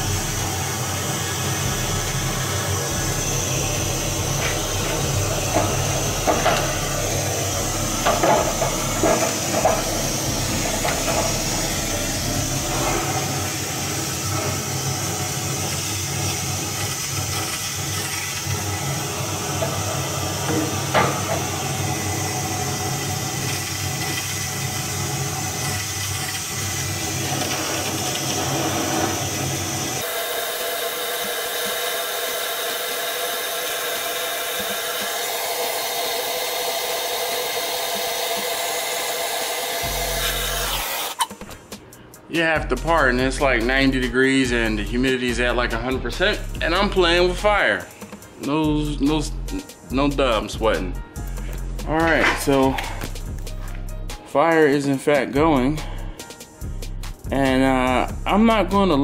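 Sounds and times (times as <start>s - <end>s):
torch flame hissing: 0.0s - 42.0s, 46.2s - 54.2s.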